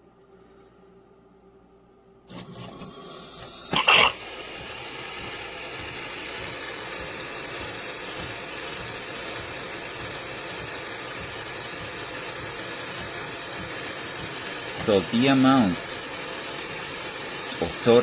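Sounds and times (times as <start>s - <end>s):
espresso machine frothing milk: 2.3s - 18.0s.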